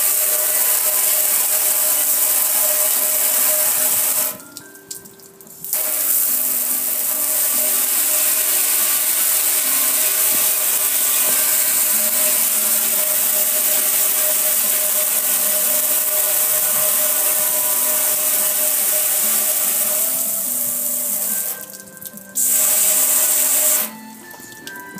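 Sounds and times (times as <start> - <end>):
hose spraying water on metal grill: 0.0 - 24.3.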